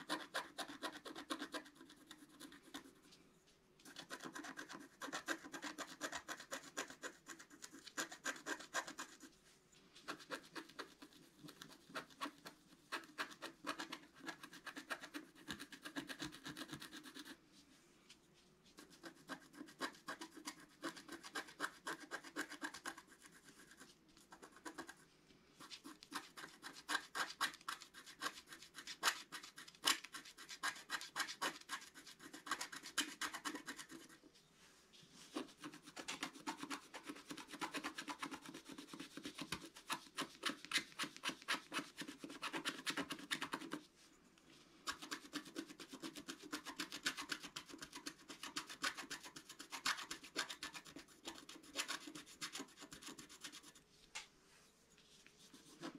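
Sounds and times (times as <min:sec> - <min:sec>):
stylus scratching coated sheet: 0:00.0 - 0:17.7, 0:18.4 - 0:55.9.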